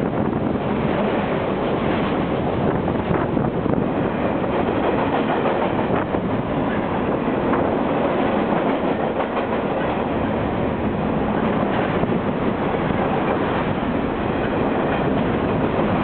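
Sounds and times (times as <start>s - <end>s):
freight train wheels clattering: 0.0s - 16.0s.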